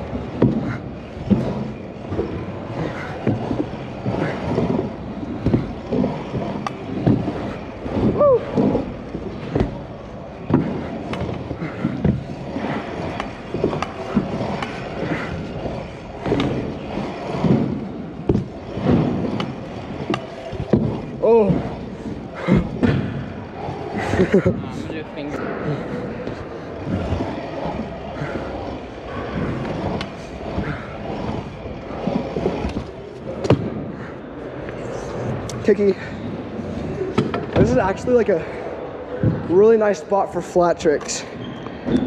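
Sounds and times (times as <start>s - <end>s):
scooter wheels rolling over ramps: 0.0s - 42.0s.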